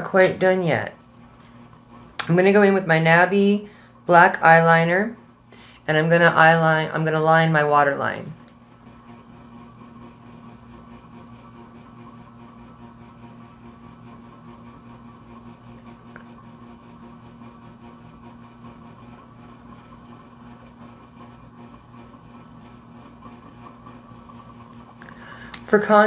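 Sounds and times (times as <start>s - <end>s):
low hum with faint hiss: 0.0s - 26.0s.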